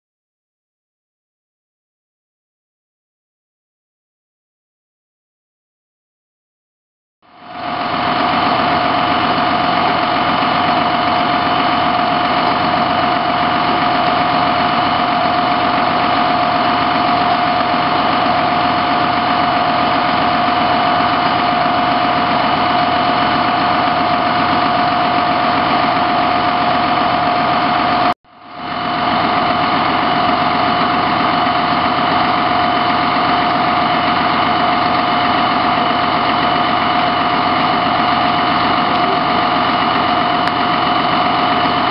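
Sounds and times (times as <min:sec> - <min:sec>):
diesel engine running: 0:07.3 - 0:41.9
steady whine: 0:07.4 - 0:41.9.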